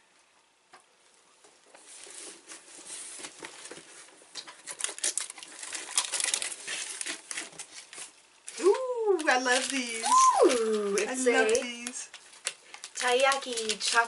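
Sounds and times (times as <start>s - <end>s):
plastic packaging crinkling: 1.8s - 14.0s.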